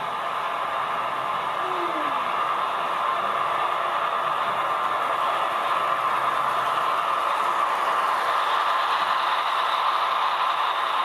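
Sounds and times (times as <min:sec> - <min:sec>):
model train rattling on track: 0:00.0 - 0:11.0.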